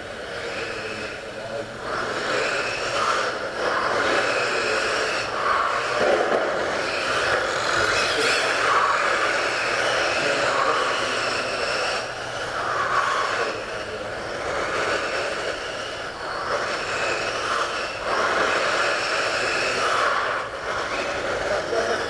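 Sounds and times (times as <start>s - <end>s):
rc cars whirring: 0.0s - 22.0s.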